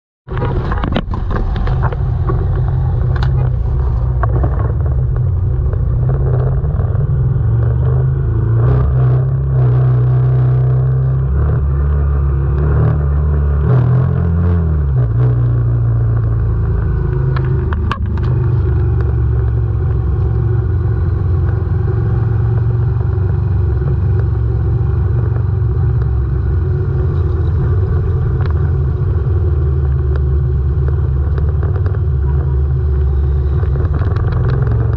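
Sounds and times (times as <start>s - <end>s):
motorcycle engine running: 0.3s - 34.9s.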